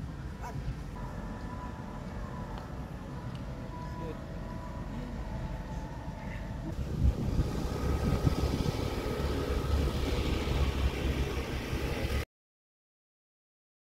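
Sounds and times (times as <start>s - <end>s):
motorcycle engine rumble: 0.0s - 12.2s.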